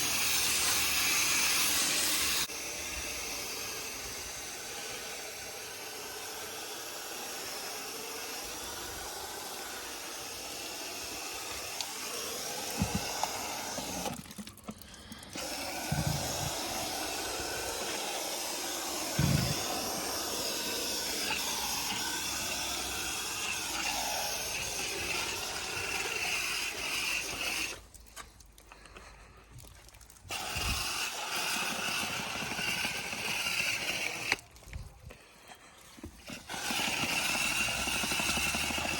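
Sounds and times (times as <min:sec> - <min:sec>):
water spraying on coil: 0:00.0 - 0:28.7, 0:29.8 - 0:34.7, 0:35.7 - 0:38.9.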